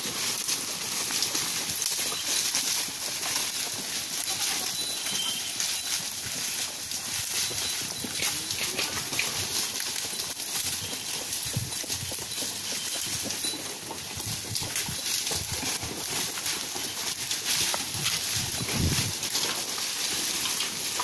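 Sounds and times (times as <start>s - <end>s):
hoof steps on dry litter: 0.0s - 21.0s
rustle and crackle of leaves: 0.0s - 21.0s.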